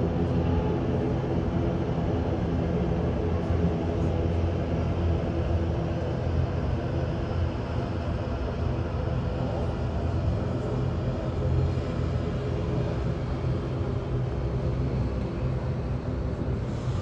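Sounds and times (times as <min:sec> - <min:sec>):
turboprop engines droning: 0:00.0 - 0:17.0.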